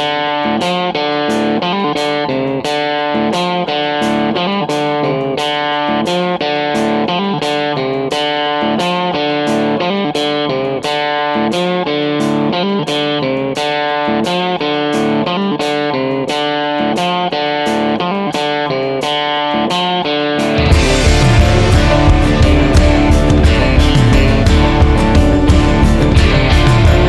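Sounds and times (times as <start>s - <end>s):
picked guitar melody: 0.0s - 27.0s.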